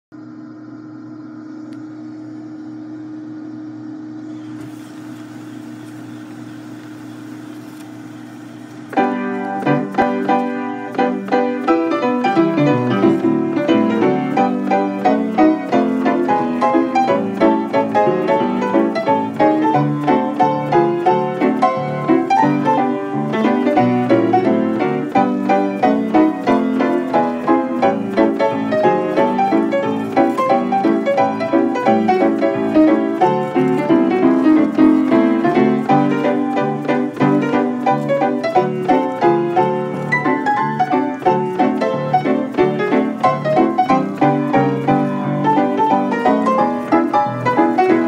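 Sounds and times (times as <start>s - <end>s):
player piano playing: 1.6s - 48.0s.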